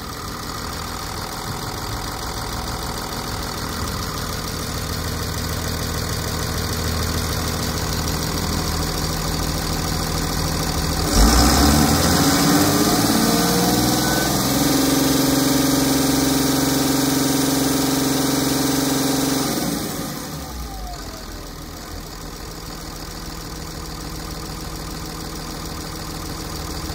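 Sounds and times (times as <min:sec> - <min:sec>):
diesel engine idling and revving: 0:00.0 - 0:26.9.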